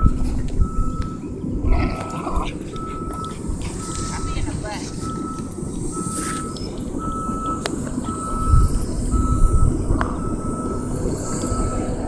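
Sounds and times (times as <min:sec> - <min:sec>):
low rumble: 0:00.0 - 0:12.0
vehicle reversing alarm beeping: 0:00.0 - 0:12.0.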